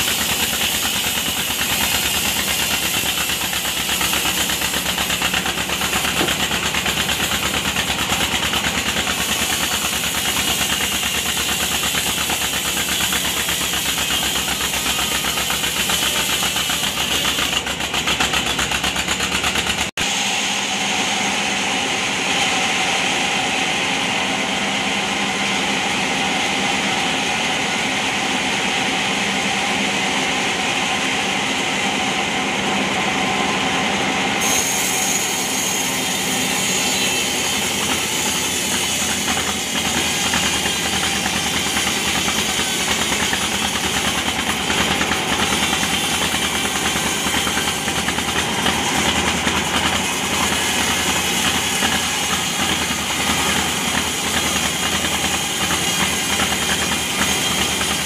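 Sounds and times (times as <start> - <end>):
bandsaw mill sawing log: 0.0 - 58.0.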